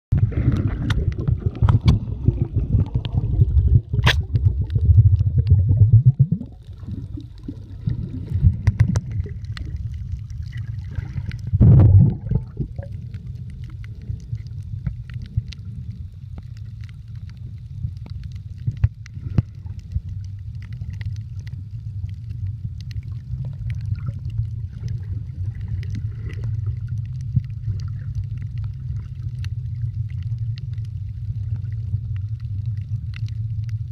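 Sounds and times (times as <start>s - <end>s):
underwater rumble of moving water: 0.0s - 33.9s
water surges: 0.1s - 33.9s
faint underwater clicks: 0.2s - 33.9s.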